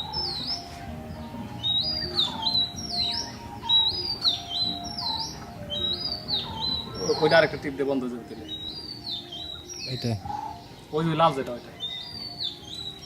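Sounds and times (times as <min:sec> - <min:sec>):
bird whistling call: 0:00.0 - 0:13.0.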